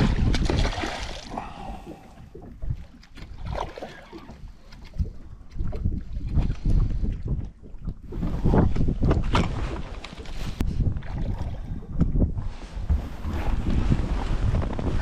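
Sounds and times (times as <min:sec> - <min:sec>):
wind buffeting microphone: 0:00.0 - 0:03.6, 0:04.2 - 0:15.0
water sounds: 0:00.0 - 0:15.0.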